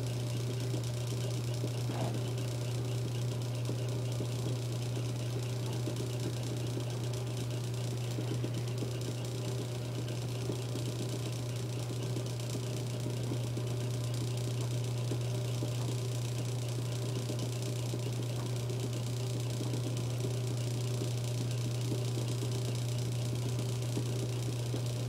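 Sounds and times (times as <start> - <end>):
electric motor humming: 0.0 - 25.0.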